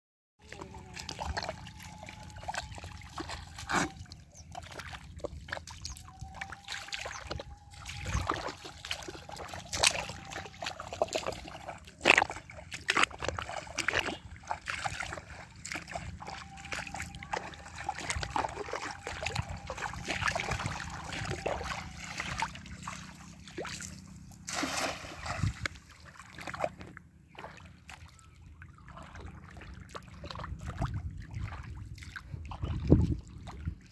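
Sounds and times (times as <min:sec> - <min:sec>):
footsteps wading through muddy water: 0:00.4 - 0:33.9.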